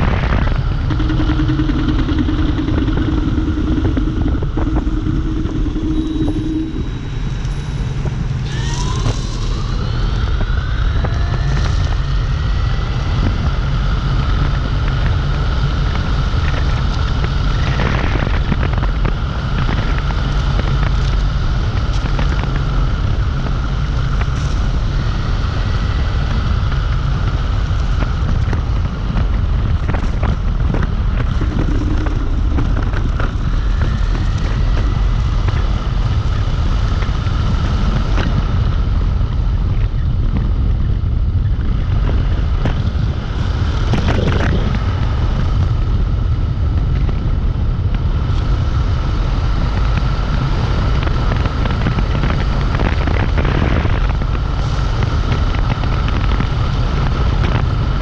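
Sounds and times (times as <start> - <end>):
electric scooter motor whining: 0.0 - 58.0
wind rumble on microphone: 0.0 - 58.0.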